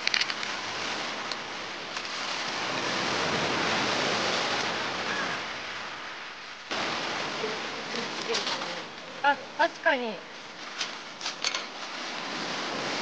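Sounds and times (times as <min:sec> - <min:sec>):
surf washing onto pebble beach: 0:00.0 - 0:13.0.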